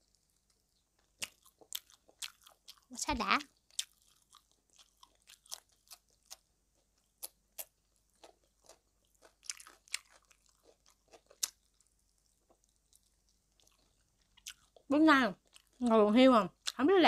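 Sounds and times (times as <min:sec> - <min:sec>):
chewing and crunching: 0:00.0 - 0:16.8.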